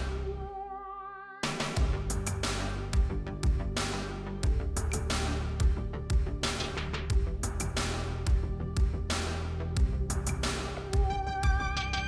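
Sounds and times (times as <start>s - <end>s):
electronic music with heavy bass: 0.0s - 0.8s, 1.4s - 12.0s.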